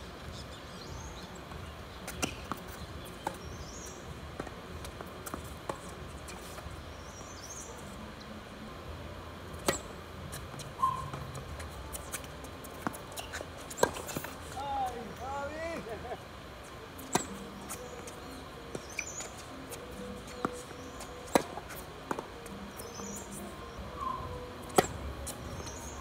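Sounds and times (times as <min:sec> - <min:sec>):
birds chirping faintly: 0:00.0 - 0:26.0
tennis balls struck by rackets: 0:00.9 - 0:07.9, 0:09.5 - 0:16.0, 0:17.0 - 0:26.0.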